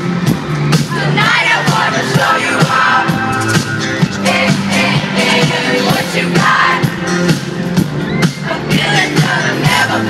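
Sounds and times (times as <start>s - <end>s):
live pop concert music: 0.0s - 10.0s.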